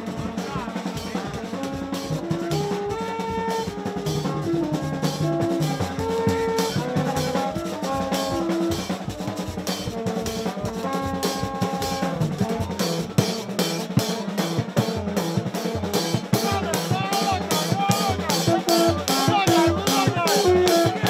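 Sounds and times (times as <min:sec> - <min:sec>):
drums beating: 0:00.0 - 0:21.0
held horn notes: 0:00.0 - 0:21.0.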